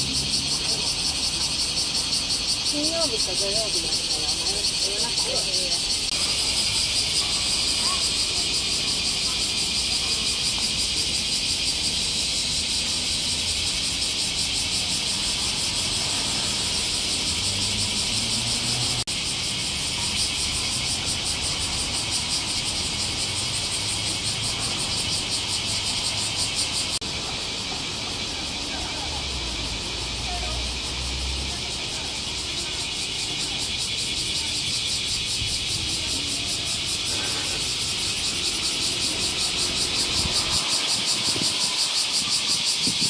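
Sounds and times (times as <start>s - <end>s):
cicadas buzzing in chorus: 0.0s - 43.0s.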